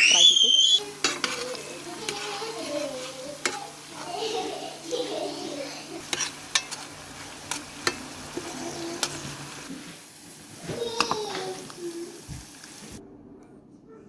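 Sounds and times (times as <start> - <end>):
garlic and onion sizzling in oil: 0.0 - 13.0.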